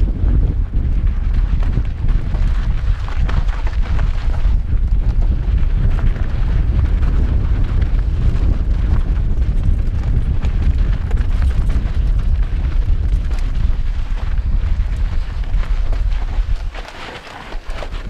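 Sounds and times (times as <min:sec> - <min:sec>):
bike rattling: 0:00.0 - 0:18.0
bike tyres crunching on gravel: 0:00.0 - 0:18.0
wind rushing over microphone: 0:00.0 - 0:18.0.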